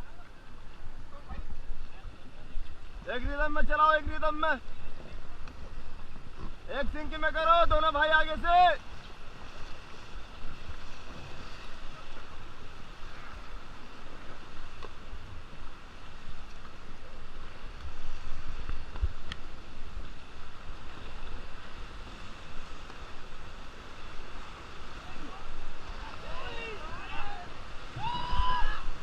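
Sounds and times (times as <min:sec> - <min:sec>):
rushing river water: 0:00.0 - 0:29.0.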